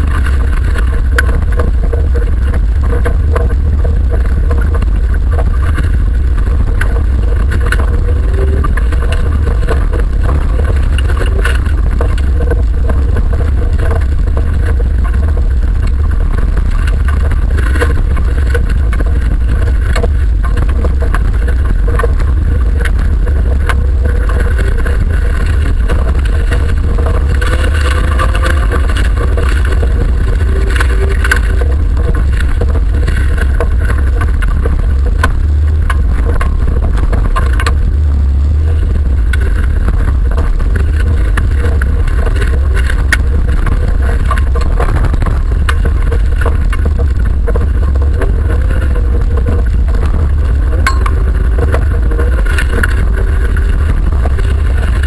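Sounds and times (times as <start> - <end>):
knocks and rattles: 0.0 - 55.0
race car engine from inside cabin: 0.0 - 55.0.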